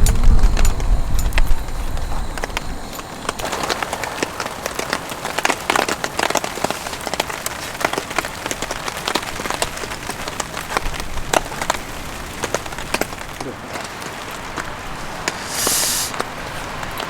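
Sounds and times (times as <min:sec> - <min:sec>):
rain drops tapping on surface: 0:00.0 - 0:17.0
rain hiss: 0:00.0 - 0:17.0.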